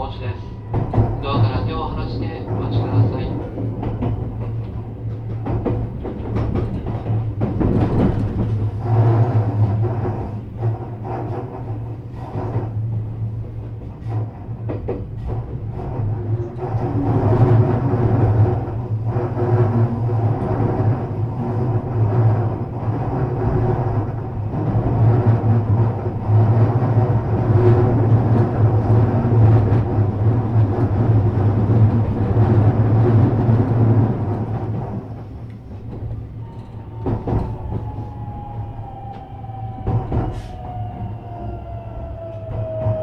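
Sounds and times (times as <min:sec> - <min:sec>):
electric train rumbling: 0:00.0 - 0:43.0.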